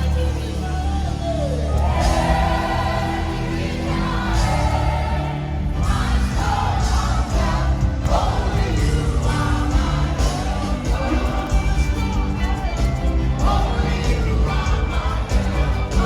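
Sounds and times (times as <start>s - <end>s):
band with heavy bass: 0.0s - 16.0s
choir and congregation singing: 1.5s - 16.0s.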